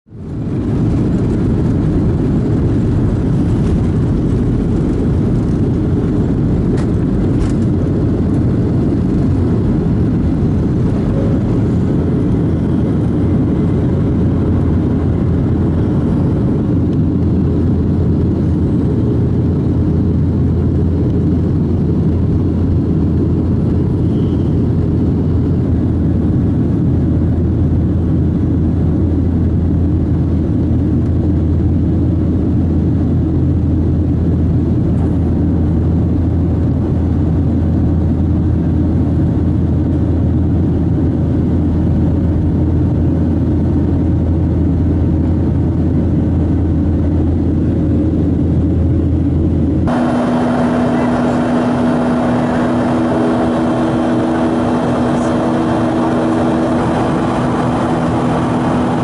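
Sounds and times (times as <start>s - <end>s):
jet engines inside cabin: 0.1s - 59.0s.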